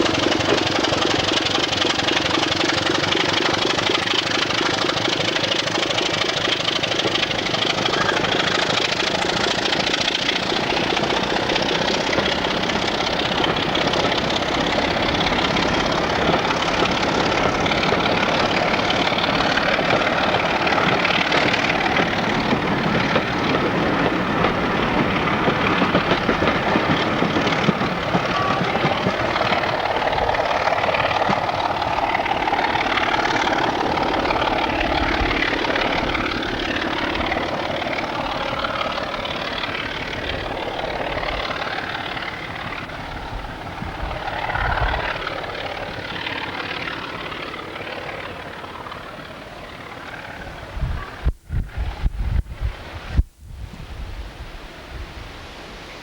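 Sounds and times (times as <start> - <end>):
diesel train engine running: 0.0 - 56.0.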